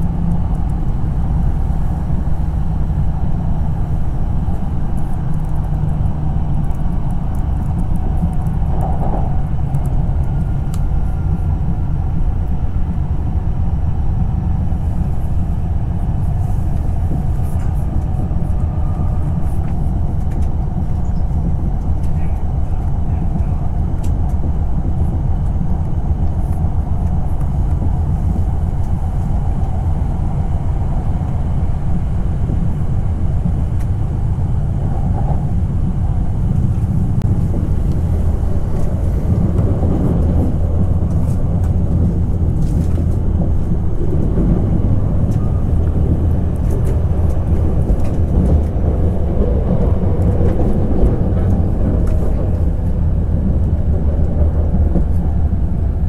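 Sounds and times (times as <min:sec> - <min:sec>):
train running low rumble: 0:00.0 - 0:56.0.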